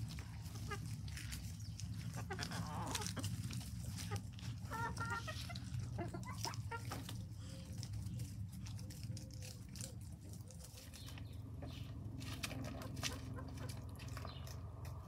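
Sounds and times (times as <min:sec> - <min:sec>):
hens clucking: 0:00.0 - 0:15.0
hens pecking taps: 0:00.0 - 0:15.0.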